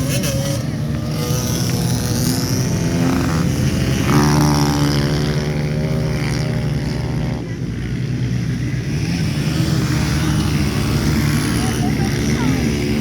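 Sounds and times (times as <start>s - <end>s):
small motorcycle engines running: 0.0s - 13.0s.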